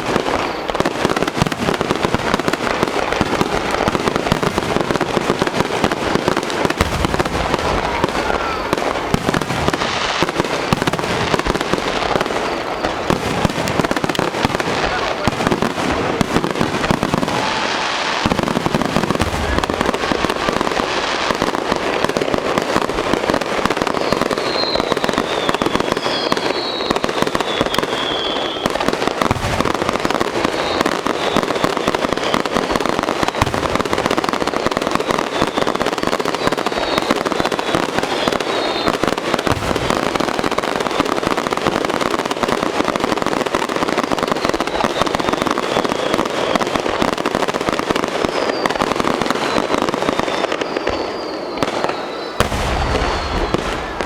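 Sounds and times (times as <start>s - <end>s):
deep fireworks booms: 0.0s - 54.0s
firework whistling: 0.0s - 54.0s
fireworks crackling: 0.0s - 54.0s.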